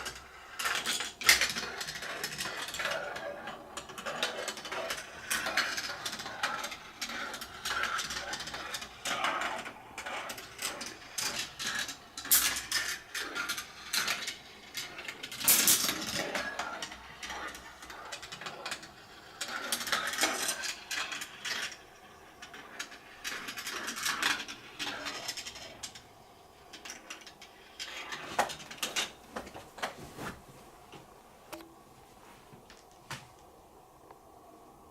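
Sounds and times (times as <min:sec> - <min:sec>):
marbles rolling on plastic track: 0:00.0 - 0:29.2.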